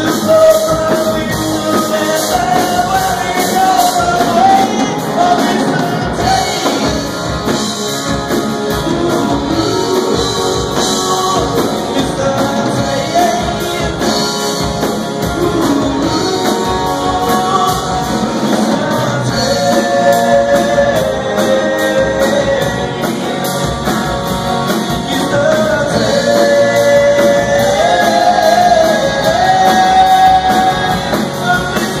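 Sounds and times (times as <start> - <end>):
lead singer singing: 0.0 - 32.0
rock band playing: 0.0 - 32.0.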